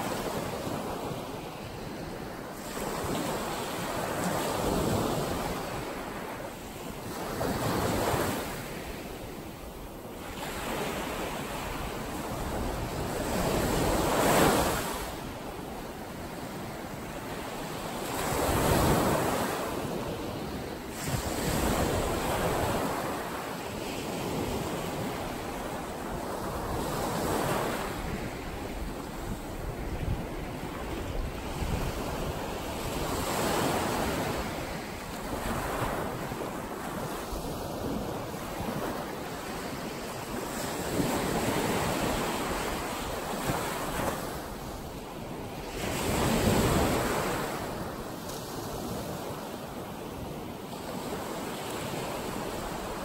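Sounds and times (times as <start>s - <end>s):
small waves breaking on beach: 0.0s - 53.0s.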